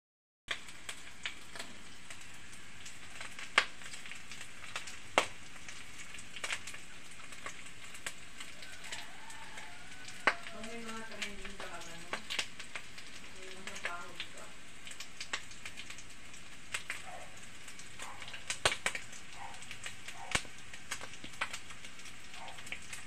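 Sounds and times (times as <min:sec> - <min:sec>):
oil popping and spattering: 0:00.5 - 0:23.0
oil sizzling in a pan: 0:00.5 - 0:23.0.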